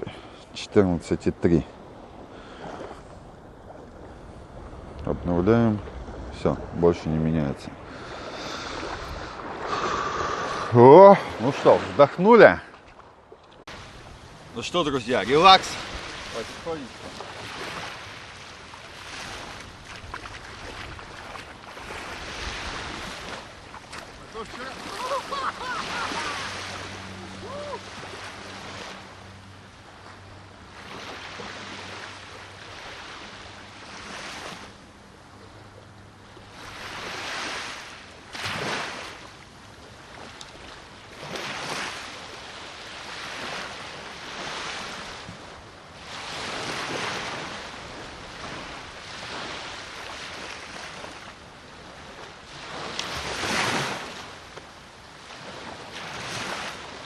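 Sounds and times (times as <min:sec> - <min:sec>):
sea water splashing: 0:01.4 - 0:57.0.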